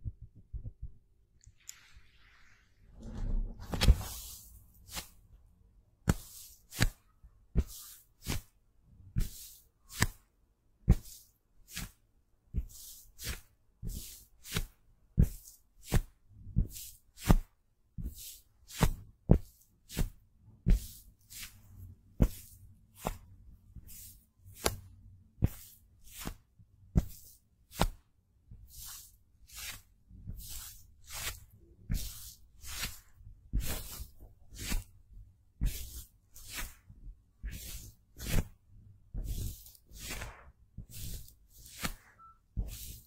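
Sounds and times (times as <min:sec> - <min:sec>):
makeup brush strokes: 0:01.6 - 0:05.3, 0:06.1 - 0:08.6, 0:09.2 - 0:10.2, 0:10.9 - 0:43.0.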